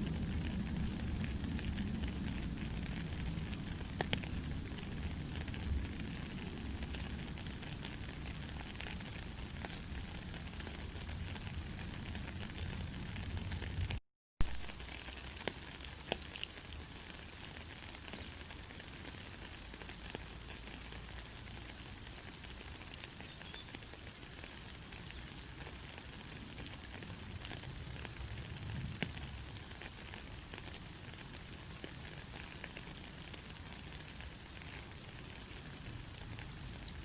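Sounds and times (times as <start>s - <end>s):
light crackle: 0.0s - 37.0s.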